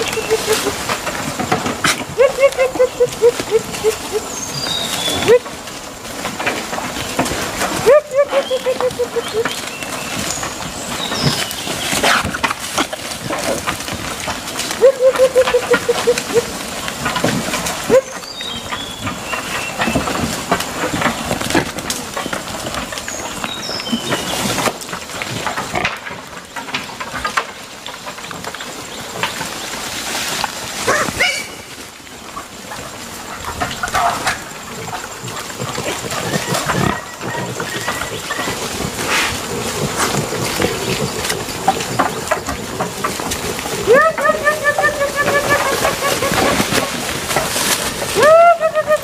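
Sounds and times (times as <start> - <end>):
boars crunching and snuffling: 0.0 - 49.0.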